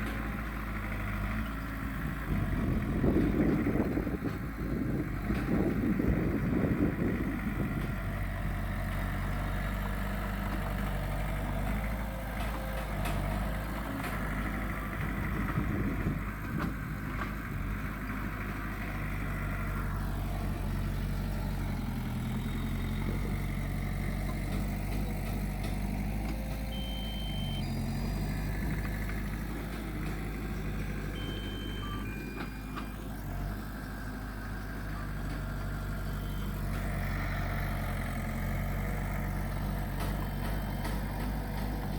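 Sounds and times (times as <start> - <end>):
heavy machinery diesel engine: 0.0 - 41.9.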